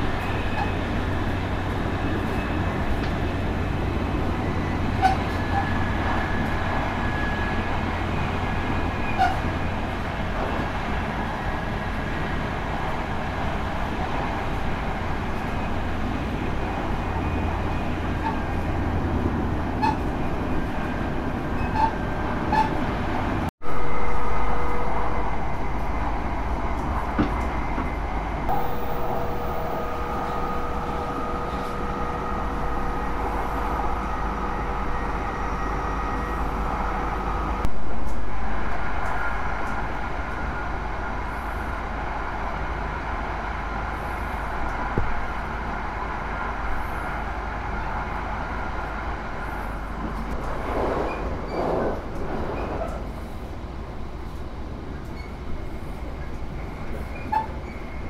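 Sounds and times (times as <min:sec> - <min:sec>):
train cabin running noise: 0:00.0 - 0:58.0.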